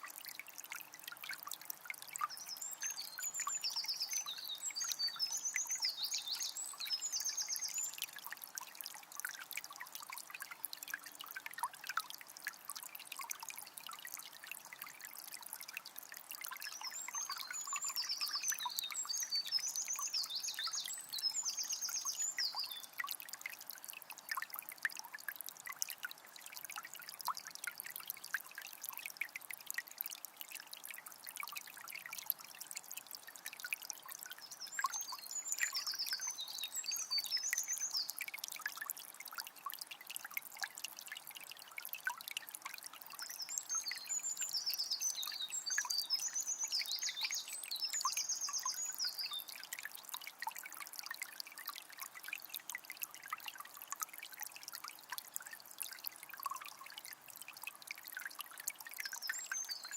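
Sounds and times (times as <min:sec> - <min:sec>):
spring water trickling: 0:00.0 - 0:59.9.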